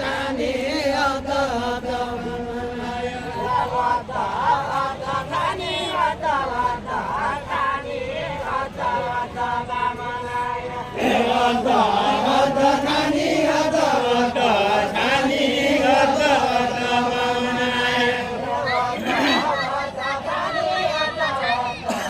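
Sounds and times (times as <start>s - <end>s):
group of voices chanting: 0.0s - 22.0s
lower-pitched group singing: 0.0s - 22.0s.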